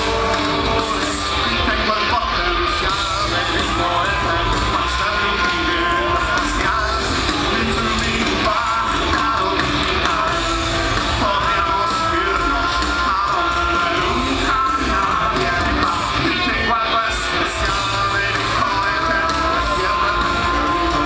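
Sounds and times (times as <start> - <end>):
live rock band playing: 0.0 - 21.0
singer holding long notes: 0.0 - 21.0.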